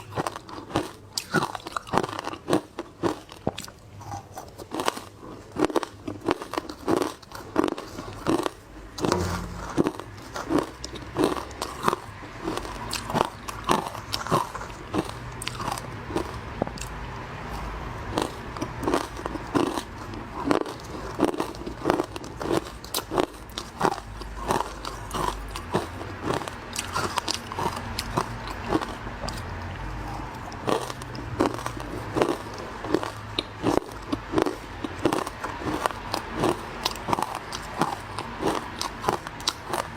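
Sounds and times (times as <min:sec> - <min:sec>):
chewing frozen ice crunches: 0:00.0 - 0:08.6, 0:10.9 - 0:39.9.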